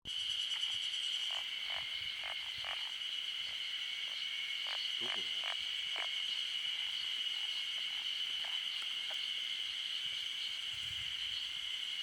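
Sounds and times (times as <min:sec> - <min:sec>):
faint frog calls: 0:00.1 - 0:12.0
frogs trilling chorus: 0:00.1 - 0:12.0.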